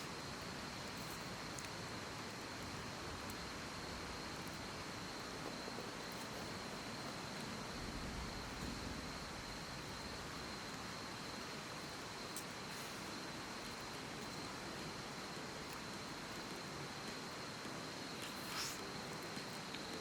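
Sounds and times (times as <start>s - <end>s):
outdoor ambient hiss: 0.0s - 20.0s.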